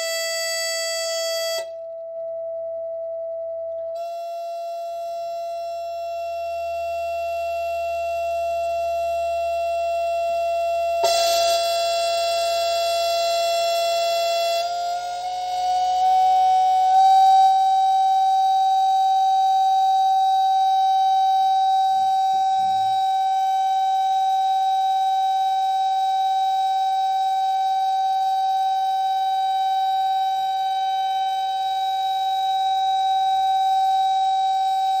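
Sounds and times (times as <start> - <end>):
steady high-pitched tone: 0.0 - 35.0.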